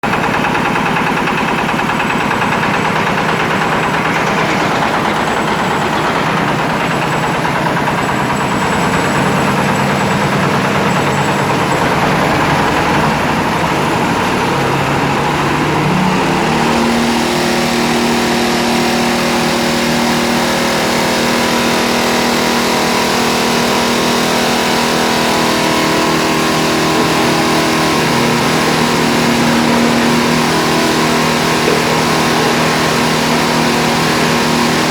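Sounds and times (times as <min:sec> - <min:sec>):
stone crusher engine drone: 0:00.0 - 0:34.9.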